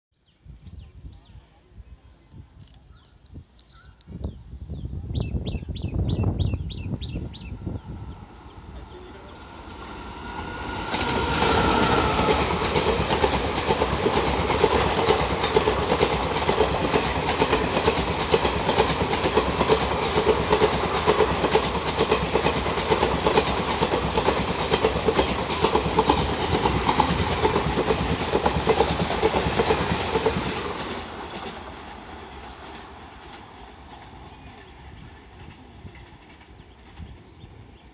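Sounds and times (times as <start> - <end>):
train rumble: 4.5 - 37.9
wheels clickety-clack over rail joints: 7.3 - 37.9.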